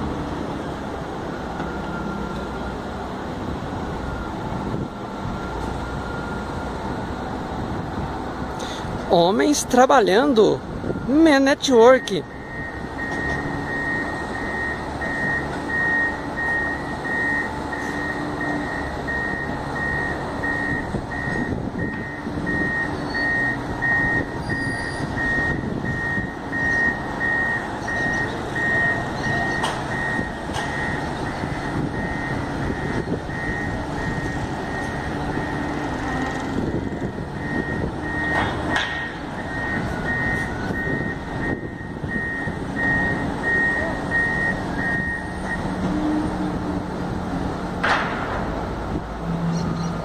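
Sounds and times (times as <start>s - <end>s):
reversing alarm beeping: 1.2s - 2.9s, 3.8s - 7.2s, 9.2s - 46.3s.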